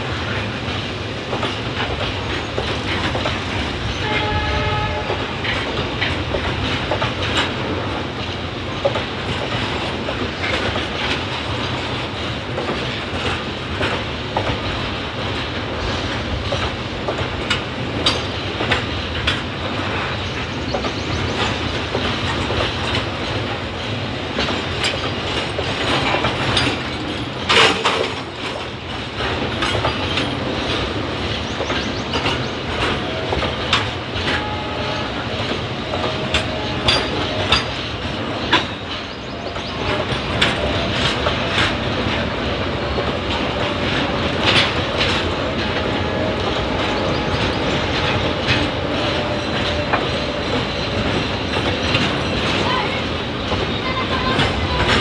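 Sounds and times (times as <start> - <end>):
wheels clattering over rail joints: 0.0 - 55.0.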